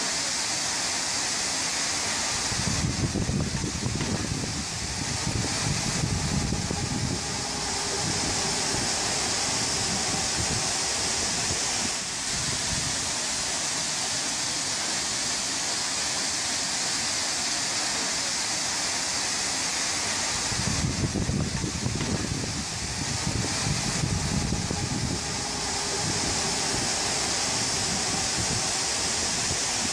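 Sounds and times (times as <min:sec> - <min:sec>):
high-pressure water jet gushing: 0:00.0 - 0:29.9.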